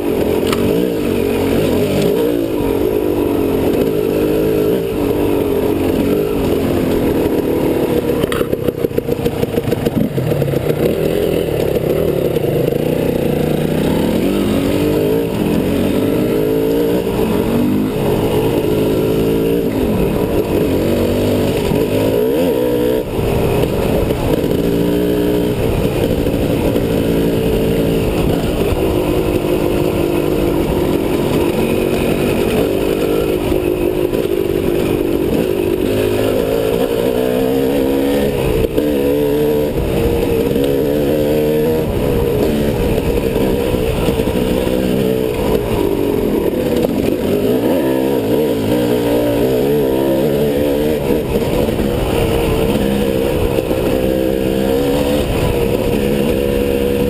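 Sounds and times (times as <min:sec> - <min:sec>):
motorcycle engine revving: 0:00.0 - 0:57.0
riding noise rush: 0:00.0 - 0:57.0.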